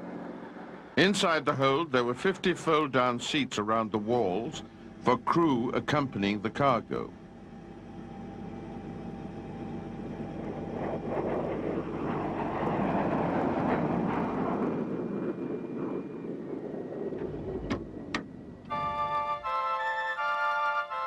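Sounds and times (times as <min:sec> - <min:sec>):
aircraft engine rushing: 0:00.0 - 0:21.0.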